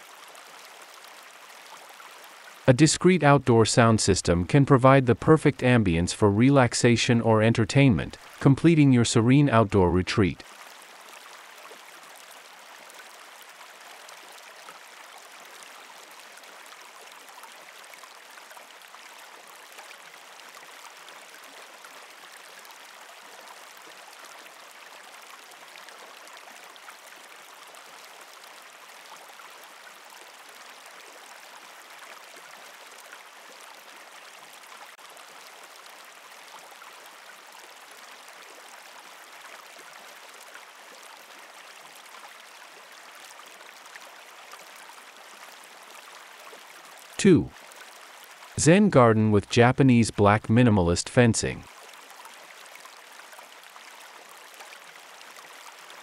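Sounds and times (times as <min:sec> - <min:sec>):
steady running water: 0:00.0 - 0:07.0, 0:07.8 - 0:09.7, 0:10.3 - 0:48.6, 0:51.6 - 0:56.0.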